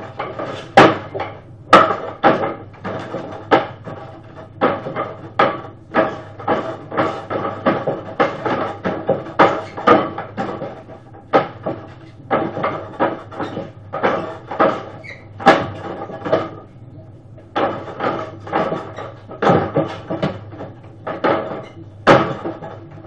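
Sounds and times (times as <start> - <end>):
wooden dummy clacks: 0.0 - 16.7, 17.5 - 23.0.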